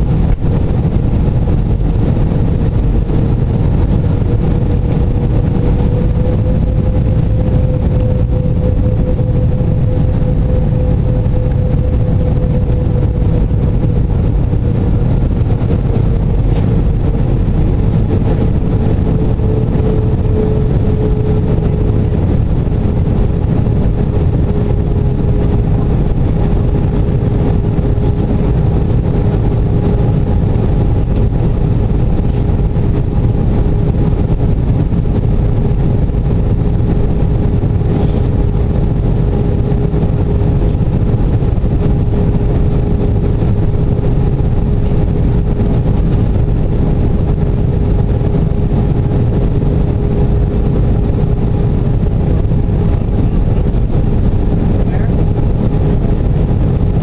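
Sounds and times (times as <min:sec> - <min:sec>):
airflow over fuselage: 0:00.0 - 0:57.0
jet engines rumbling: 0:00.0 - 0:57.0
steady droning tone: 0:00.0 - 0:57.0.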